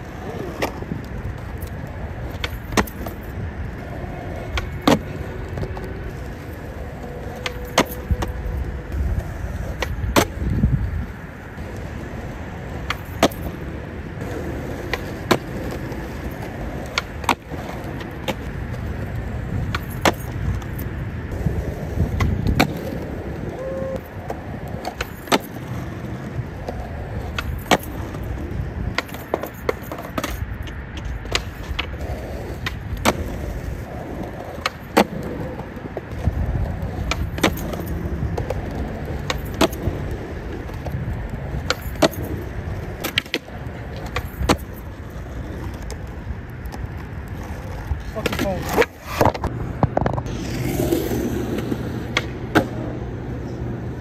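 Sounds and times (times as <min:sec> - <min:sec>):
skateboard slapping down: 0:00.0 - 0:08.4, 0:12.7 - 0:53.0
skateboard tail popping: 0:00.0 - 0:54.0
skateboard wheels rolling on asphalt: 0:00.0 - 0:54.0.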